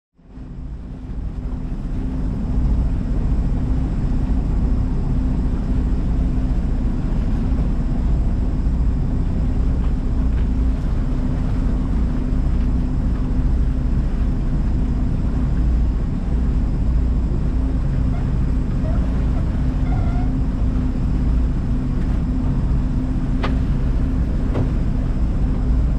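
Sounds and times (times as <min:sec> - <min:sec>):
engine running with low rumble: 0:00.2 - 0:25.9.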